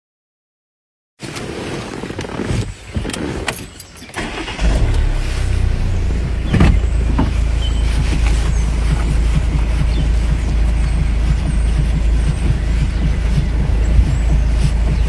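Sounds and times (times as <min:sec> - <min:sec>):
car engine starting and running: 0:02.3 - 0:15.0.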